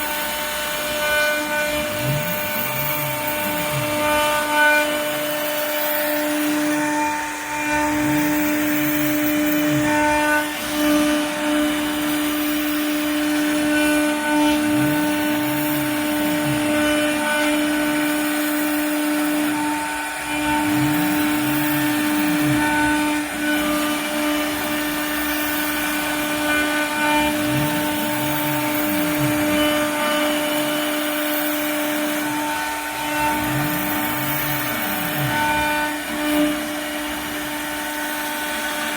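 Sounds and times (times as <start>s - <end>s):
motor rising and falling in pitch: 0.0s - 38.9s
router spindle whine: 0.0s - 38.9s.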